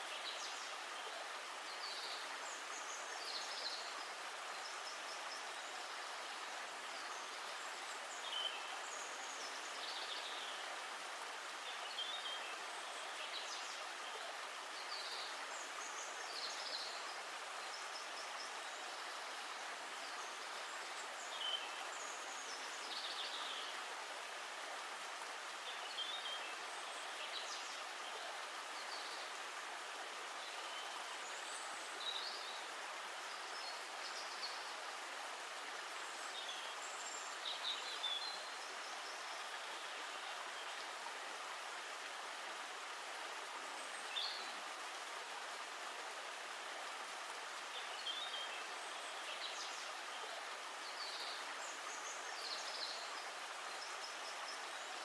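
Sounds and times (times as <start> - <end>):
running water stream: 0.0 - 55.0.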